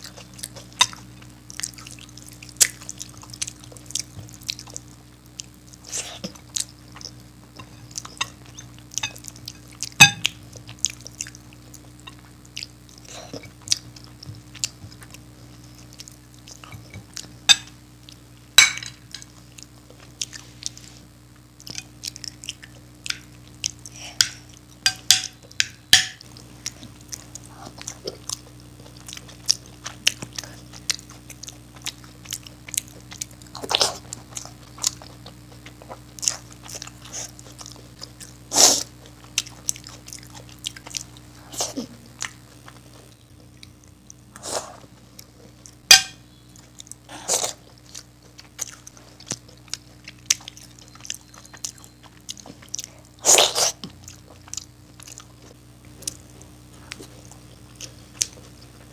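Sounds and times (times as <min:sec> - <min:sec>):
person chewing food: 0:00.0 - 0:58.9
steady low hum: 0:00.0 - 0:58.9.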